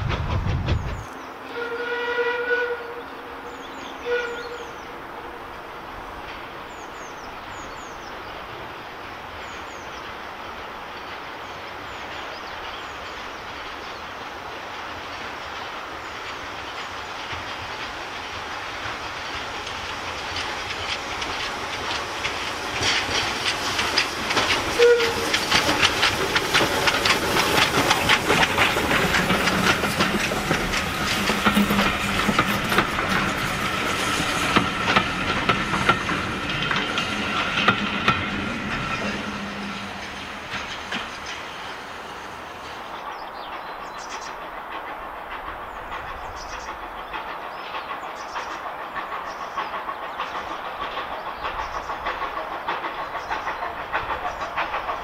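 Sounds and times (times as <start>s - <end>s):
train wheels clattering over rail joints: 0.0s - 1.4s, 3.5s - 55.0s
steam locomotive approaching: 0.0s - 55.0s.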